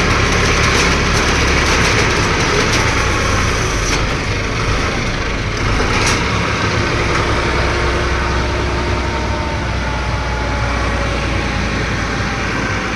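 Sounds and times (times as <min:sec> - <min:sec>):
drilling machine engine droning: 0:00.0 - 0:12.9.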